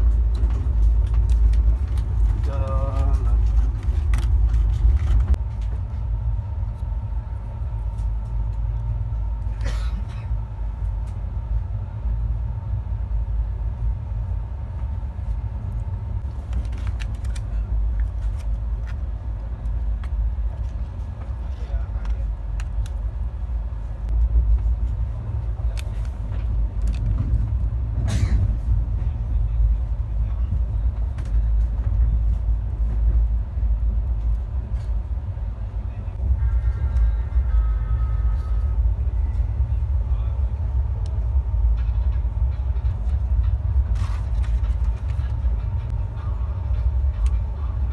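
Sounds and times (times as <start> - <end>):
train coach rumbling on rails: 0.0 - 47.9.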